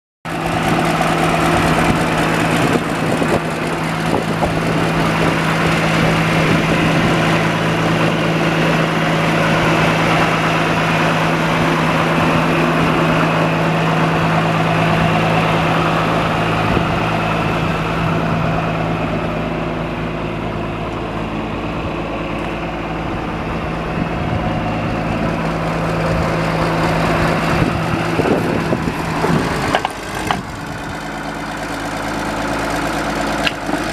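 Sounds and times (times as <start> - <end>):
diesel engine idling: 0.3 - 33.9.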